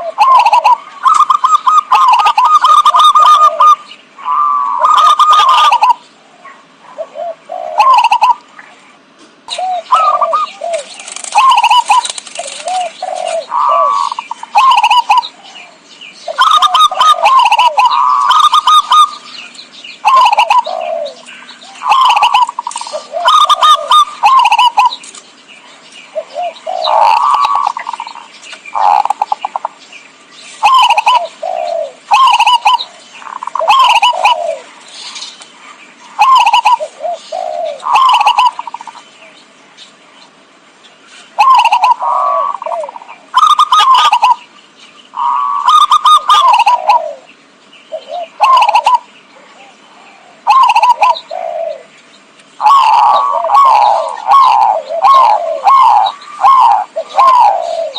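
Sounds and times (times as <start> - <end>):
dove cooing: 0.0 - 25.1, 26.0 - 29.8, 30.6 - 39.3, 41.2 - 52.0, 52.6 - 57.9.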